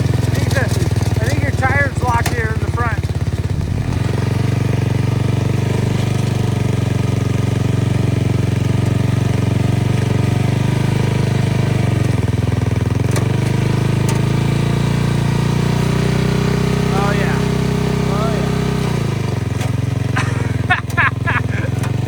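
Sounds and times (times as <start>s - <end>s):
lawnmower engine running: 0.0s - 22.0s.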